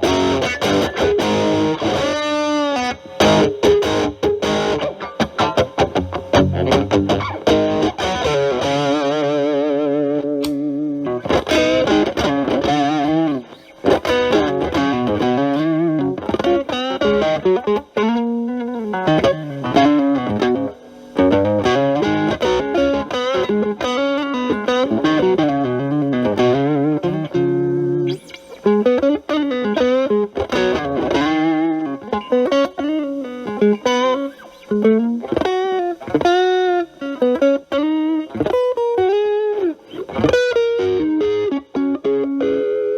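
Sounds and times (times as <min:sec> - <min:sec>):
electric guitar lead lines: 0:00.0 - 0:42.9.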